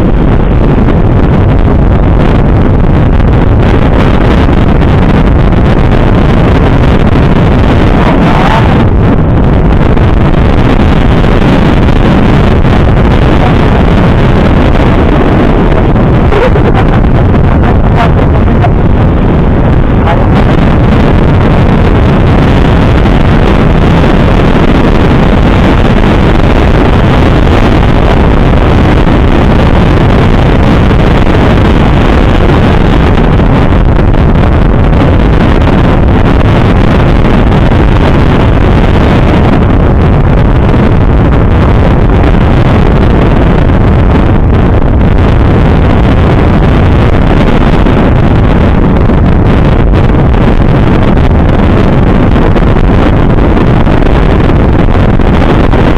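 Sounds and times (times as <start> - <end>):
road noise: 0.0 - 53.7
wind rushing over microphone: 0.0 - 55.9.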